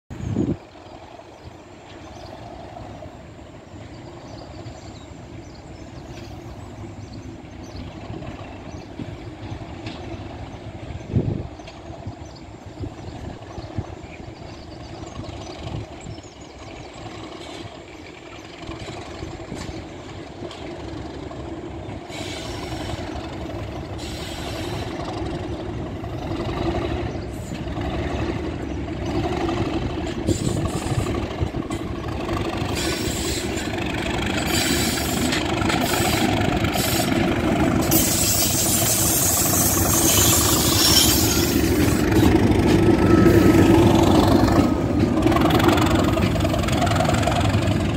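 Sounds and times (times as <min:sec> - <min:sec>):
diesel locomotive engine: 0:00.0 - 0:47.9
rail and wheel noise: 0:00.0 - 0:47.9.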